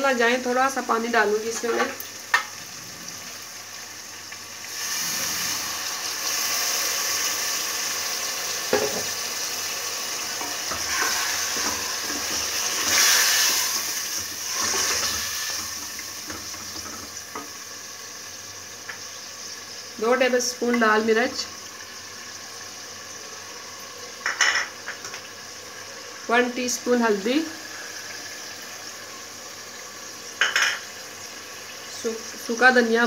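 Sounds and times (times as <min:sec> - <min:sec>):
loud sizzle from added water: 0:00.0 - 0:33.0
meat frying in hot oil: 0:00.0 - 0:33.0.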